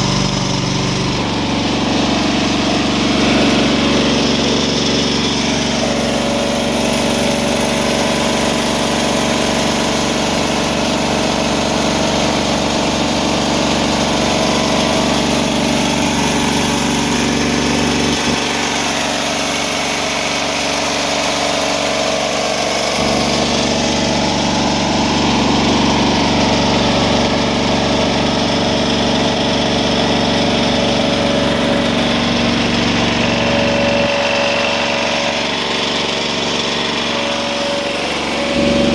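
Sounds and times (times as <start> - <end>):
carpet cleaning machine droning: 0.0 - 38.9.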